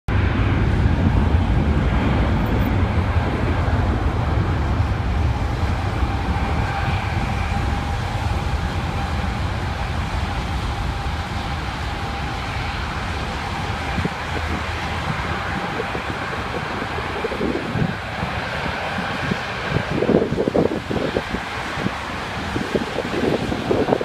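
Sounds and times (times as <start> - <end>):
jet engines rumbling: 0.1 - 24.0.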